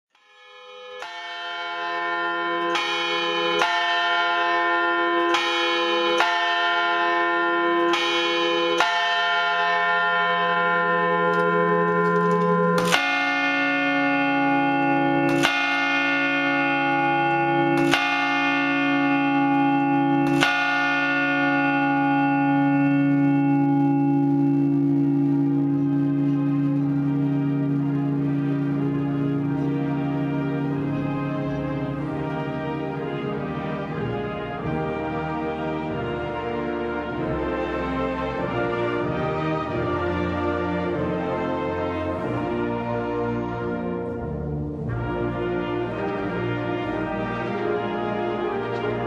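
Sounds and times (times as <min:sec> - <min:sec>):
church bells ringing: 0:00.2 - 0:49.0.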